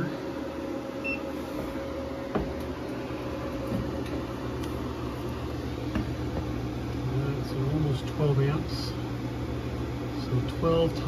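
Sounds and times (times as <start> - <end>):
inverter electrical hum and fan: 0.0 - 11.0.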